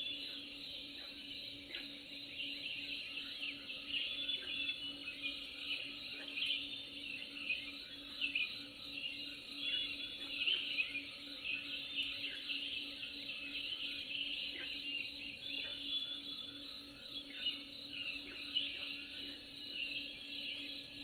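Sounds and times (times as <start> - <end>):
faint steady hum: 0.0 - 21.0
many birds chirping: 0.0 - 21.0.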